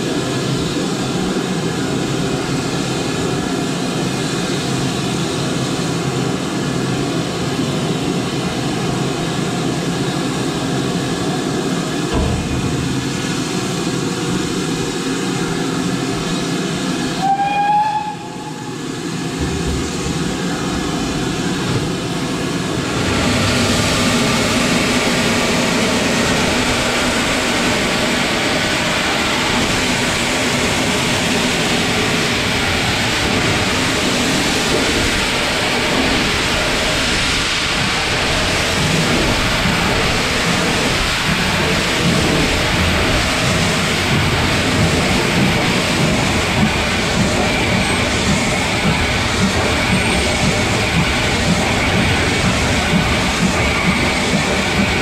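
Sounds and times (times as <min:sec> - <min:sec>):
rail noise: 0:00.0 - 0:55.0
steam locomotive rumble: 0:00.0 - 0:55.0.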